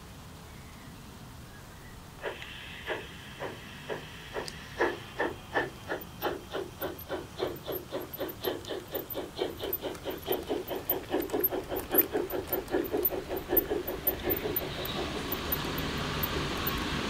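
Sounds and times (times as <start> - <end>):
model steam locomotive chuffing: 2.2 - 17.0.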